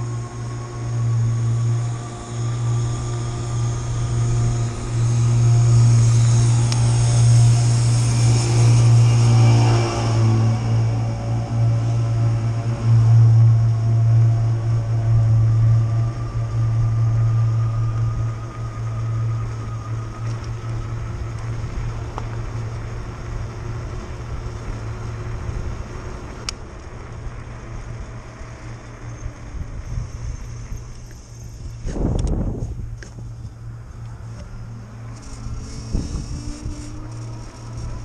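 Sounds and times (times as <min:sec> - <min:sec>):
electric bicycle motor whine: 0:00.0 - 0:38.0
road and wind noise: 0:00.0 - 0:38.0
steady low hum: 0:00.0 - 0:38.0.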